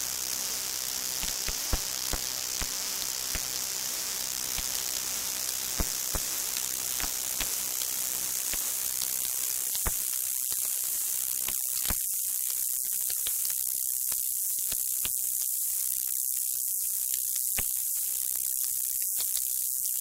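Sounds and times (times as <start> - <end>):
high static hiss: 0.0 - 19.8.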